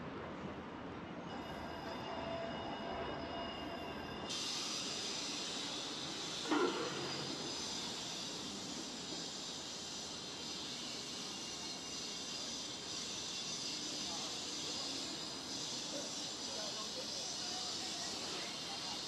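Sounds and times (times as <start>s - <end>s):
city background noise: 0.0s - 19.0s
high steady whining tones: 1.3s - 19.0s.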